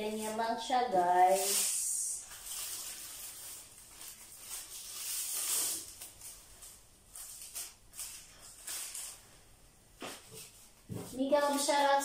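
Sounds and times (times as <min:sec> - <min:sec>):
plastic bag strips rustling: 0:00.0 - 0:12.0.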